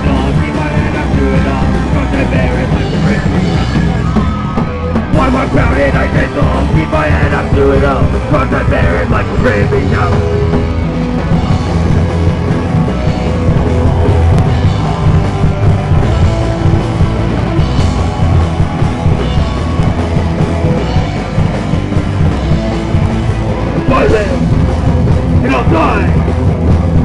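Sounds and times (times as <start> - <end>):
punk rock band playing live: 0.0 - 27.0.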